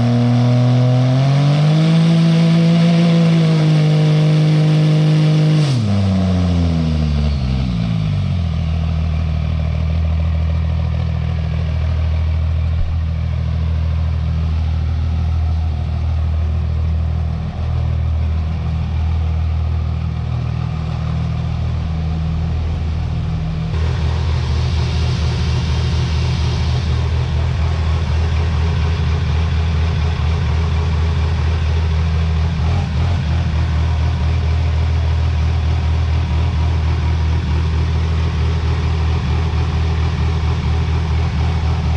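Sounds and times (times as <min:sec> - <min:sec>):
diesel truck engine idling: 0:08.0 - 0:41.9.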